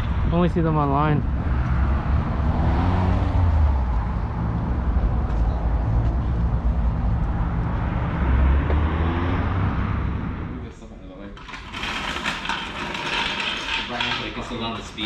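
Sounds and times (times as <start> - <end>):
car engine rumbling: 0.0 - 15.0
road and wind noise: 0.0 - 15.0.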